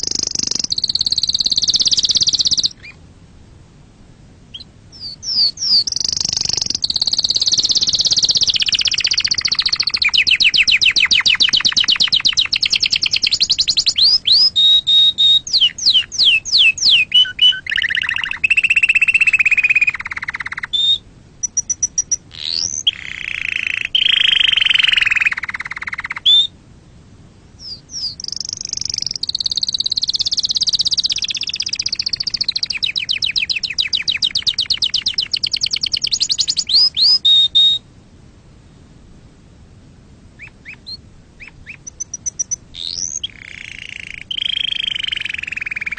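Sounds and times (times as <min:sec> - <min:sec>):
canary singing trills: 0:00.0 - 0:03.0, 0:04.5 - 0:26.6, 0:27.6 - 0:37.8, 0:40.4 - 0:45.9.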